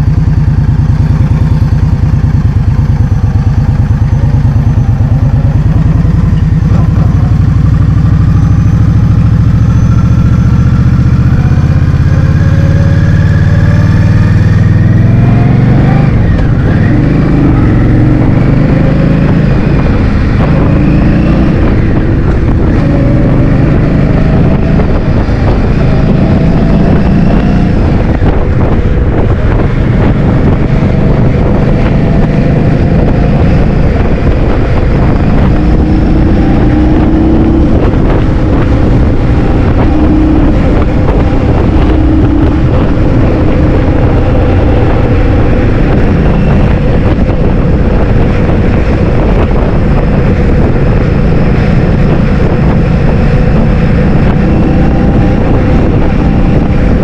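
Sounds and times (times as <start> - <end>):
scooter engine whine: 0.0 - 57.0
wind buffeting microphone: 10.8 - 57.0.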